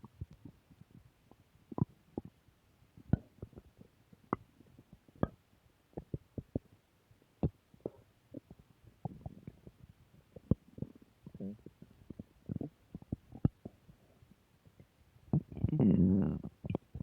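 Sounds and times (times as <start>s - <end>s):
stomach growling: 0.0s - 2.4s, 3.0s - 6.8s, 7.4s - 17.0s.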